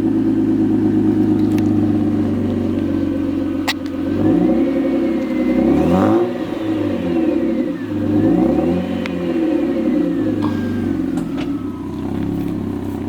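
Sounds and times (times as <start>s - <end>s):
car exhaust revving: 0.0s - 13.0s.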